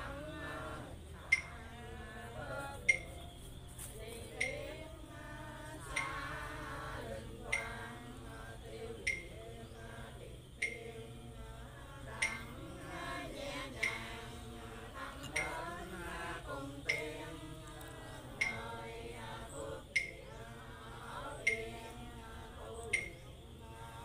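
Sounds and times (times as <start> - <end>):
voices chanting in unison: 0.0 - 24.0.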